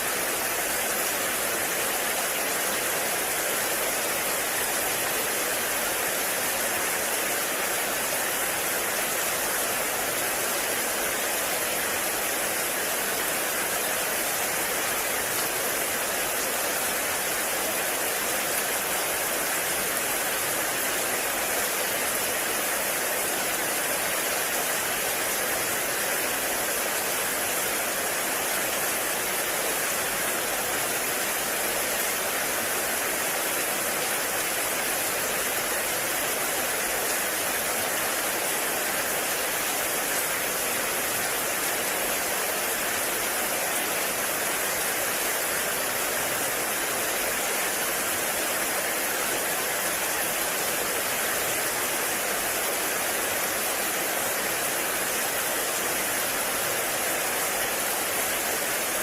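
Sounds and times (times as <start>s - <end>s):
heavy rain in a forest: 0.0s - 59.0s.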